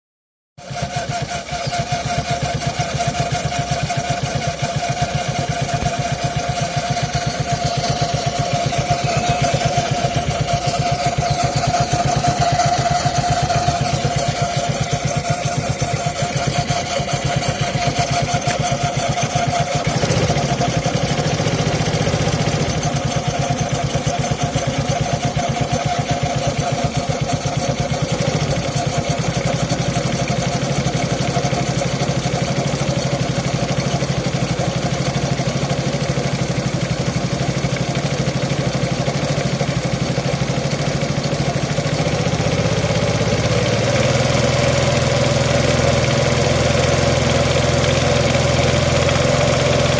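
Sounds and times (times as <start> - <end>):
scooter engine idling: 0.6 - 49.9.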